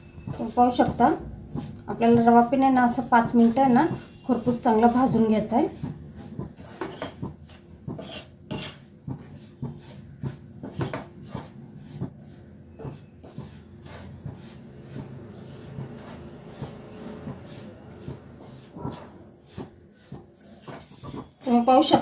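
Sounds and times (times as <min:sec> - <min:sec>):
spatula scraping in pan: 0:00.1 - 0:22.0.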